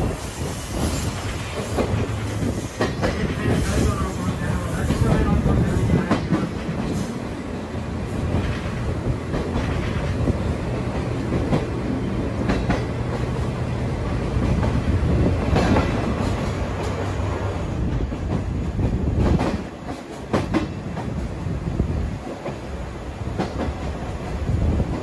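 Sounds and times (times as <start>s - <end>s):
train wheels rumbling on rails: 0.0s - 25.0s
wheels clacking over rail joints: 0.8s - 21.3s.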